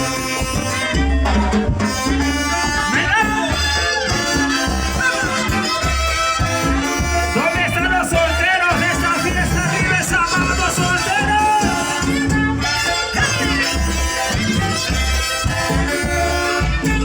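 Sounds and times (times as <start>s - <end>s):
brass: 0.0s - 17.0s
pulsing bass line: 0.0s - 17.0s.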